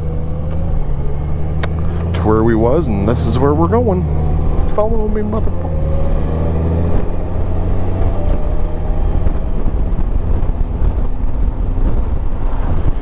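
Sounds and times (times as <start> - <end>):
motorcycle engine: 0.0 - 13.0
road and wind noise: 0.0 - 13.0.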